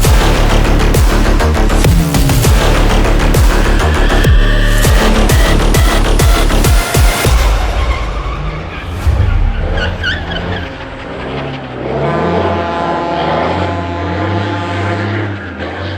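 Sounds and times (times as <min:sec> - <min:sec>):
car engine revving: 0:00.0 - 0:15.9
tyres skidding and squealing: 0:02.7 - 0:15.9.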